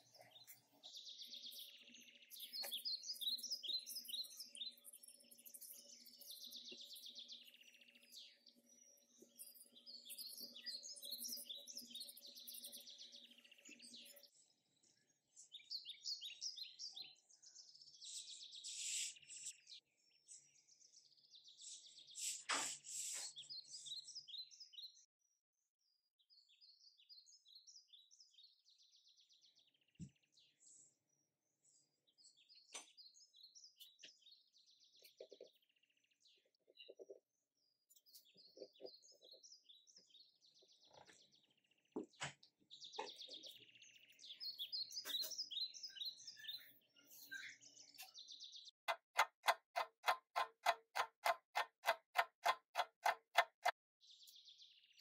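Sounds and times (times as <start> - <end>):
birds chirping: 0.0 - 25.0, 26.3 - 55.0.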